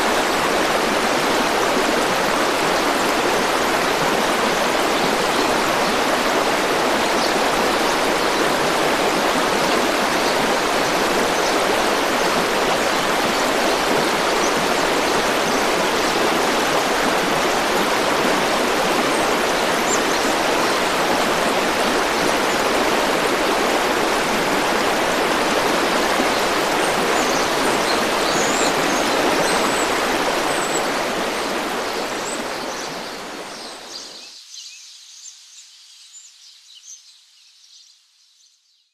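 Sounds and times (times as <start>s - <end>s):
river water rushing: 0.0s - 34.1s.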